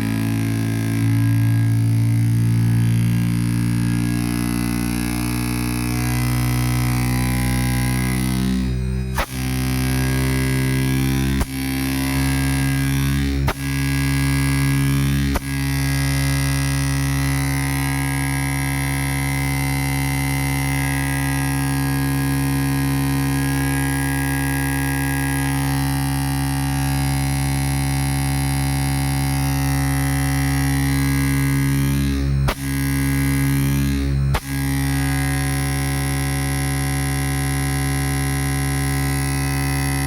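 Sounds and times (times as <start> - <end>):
buzzing electrical hum: 0.0 - 40.0.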